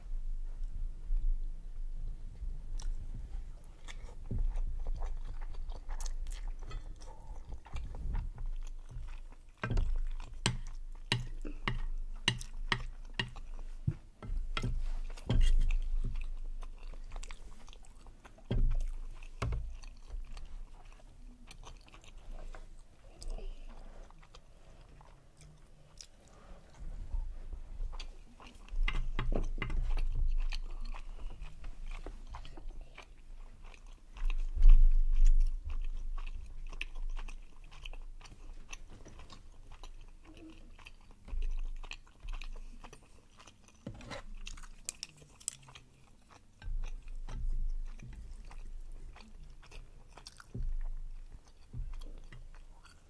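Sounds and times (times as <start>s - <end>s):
chewing rice cakes: 2.7s - 26.8s, 27.8s - 53.0s.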